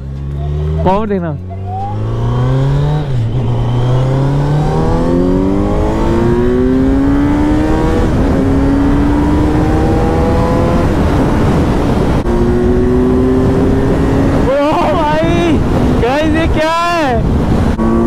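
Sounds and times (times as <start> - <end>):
motorcycle engine accelerating: 0.0 - 16.1, 17.2 - 18.0
wind rushing over microphone: 1.8 - 18.0.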